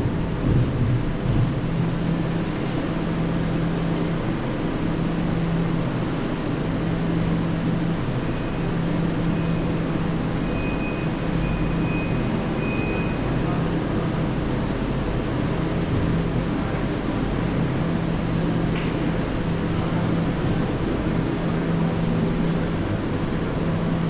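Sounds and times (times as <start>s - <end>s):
broad rumbling noise: 0.0s - 11.5s, 12.1s - 24.0s
low engine-like hum: 0.0s - 24.0s.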